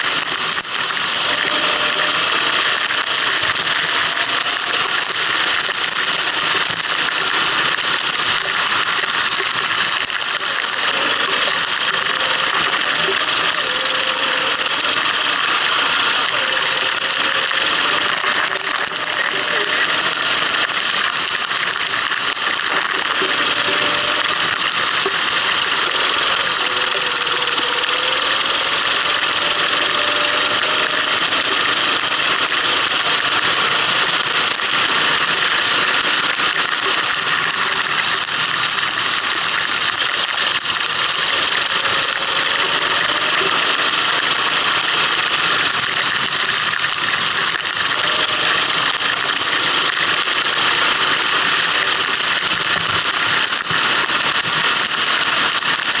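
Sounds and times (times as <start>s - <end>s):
go-kart engine running: 0.0s - 56.0s
rush of wind and rain spray: 0.0s - 56.0s.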